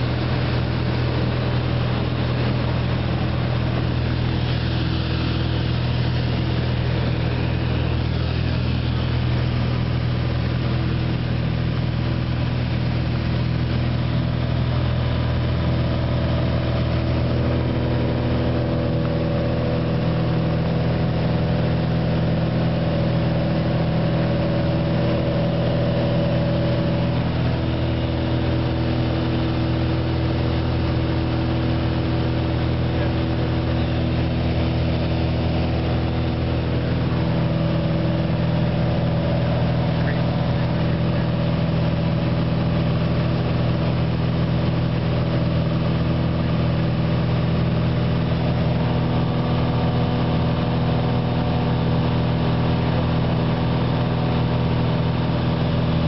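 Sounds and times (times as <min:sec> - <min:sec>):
light airplane engine drone: 0:00.0 - 0:56.0.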